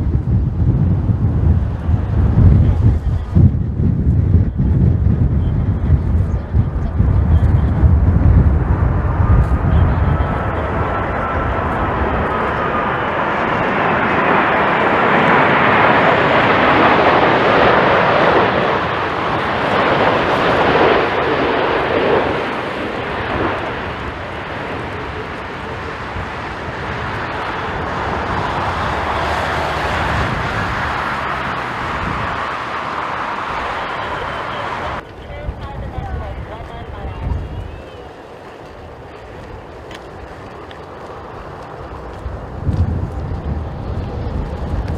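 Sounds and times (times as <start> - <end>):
jet airliner engine rush: 0.0 - 44.9.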